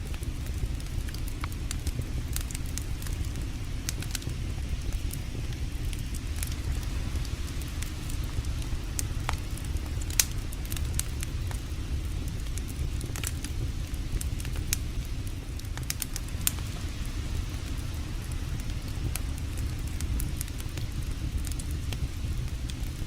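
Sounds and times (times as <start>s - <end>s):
campfire wood crackling: 0.0s - 23.0s
steady low rumble: 0.0s - 23.0s.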